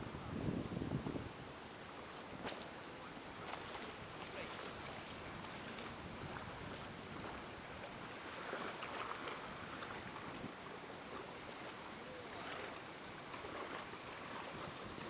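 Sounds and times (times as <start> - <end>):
wind noise: 0.0 - 10.7, 13.5 - 15.0
water lapping and splashing: 1.7 - 15.0.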